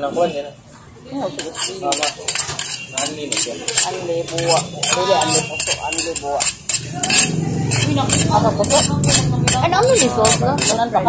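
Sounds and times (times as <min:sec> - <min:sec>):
voices chatting: 0:00.0 - 0:11.0
tableware clinking: 0:01.3 - 0:10.8.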